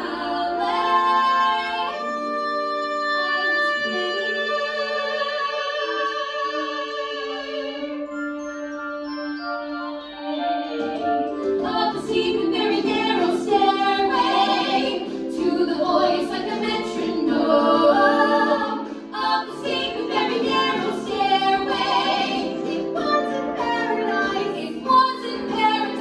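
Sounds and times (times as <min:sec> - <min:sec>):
women singing in harmony: 0:00.0 - 0:08.0, 0:11.6 - 0:26.0.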